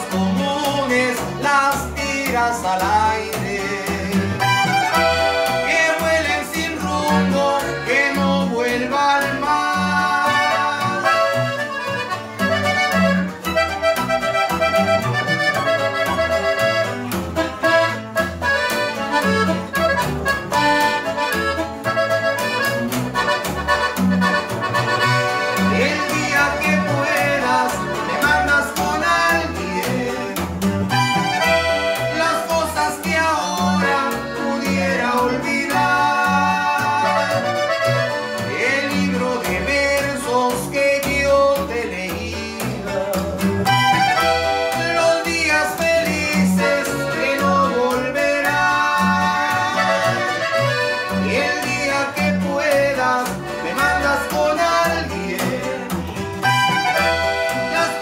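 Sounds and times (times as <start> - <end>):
button accordion melody: 0.0 - 58.0
plucked upright bass: 0.0 - 58.0
strummed guitar: 0.0 - 58.0.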